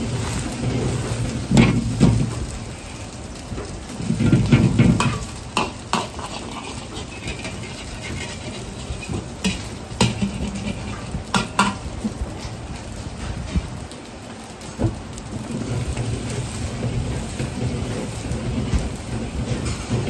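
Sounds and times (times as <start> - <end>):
noodles sizzling in oil: 0.0 - 20.0.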